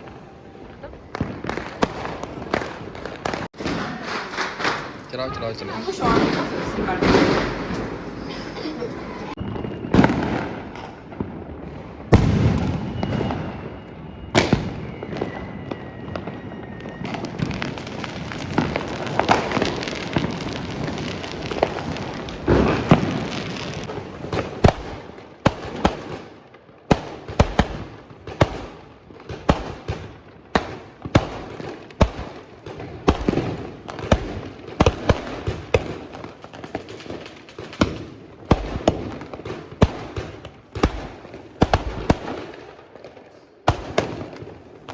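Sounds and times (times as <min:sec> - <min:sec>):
firecrackers banging: 0:00.0 - 0:05.2, 0:11.9 - 0:44.9
dense firecracker crackling: 0:00.0 - 0:08.6, 0:09.4 - 0:44.9.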